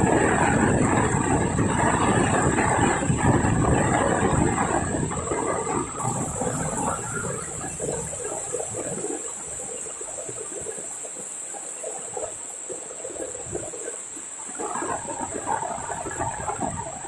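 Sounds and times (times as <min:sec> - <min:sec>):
heavy rain pouring: 0:00.0 - 0:17.0
water running and splashing: 0:00.0 - 0:17.0.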